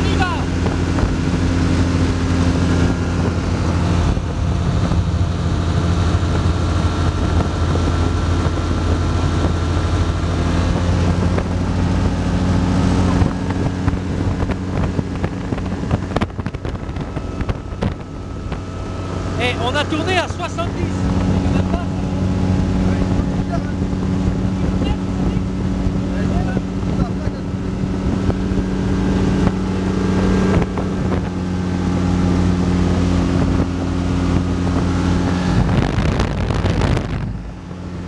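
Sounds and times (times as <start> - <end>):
aircraft engine droning: 0.0 - 38.0
knocks of wind buffeting: 0.0 - 38.0
wind rushing past microphone: 0.0 - 38.0.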